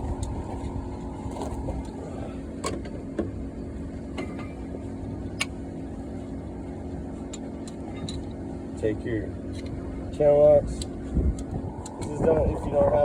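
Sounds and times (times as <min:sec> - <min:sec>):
low rumble: 0:00.0 - 0:07.3, 0:09.8 - 0:13.0.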